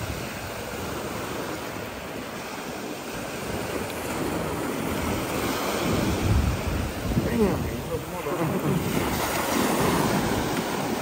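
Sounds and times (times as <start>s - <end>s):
ocean waves breaking on beach: 0.0s - 11.0s.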